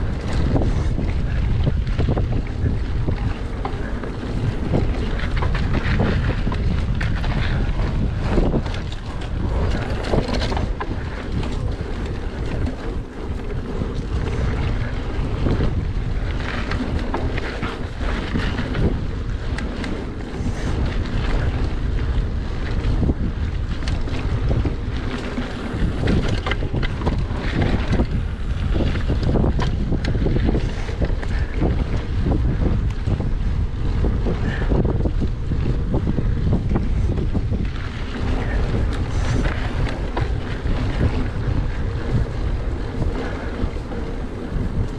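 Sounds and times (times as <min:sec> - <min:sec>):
bike knocks and rattles: 0:00.0 - 0:44.9
bike tyre noise on dirt: 0:00.0 - 0:44.9
wind buffeting microphone: 0:00.0 - 0:44.9.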